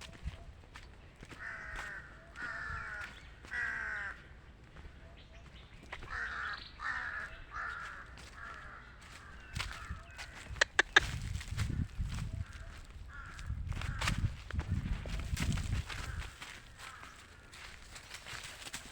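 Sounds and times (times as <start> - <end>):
crows cawing: 1.2 - 5.0, 5.8 - 14.4, 15.6 - 18.8.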